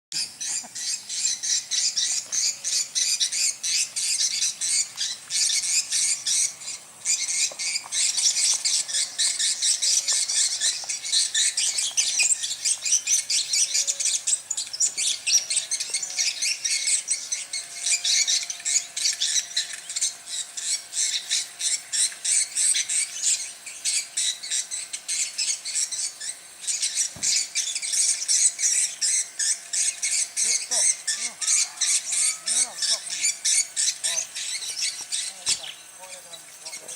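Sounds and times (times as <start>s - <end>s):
birds chirping and twittering: 0.1s - 36.9s.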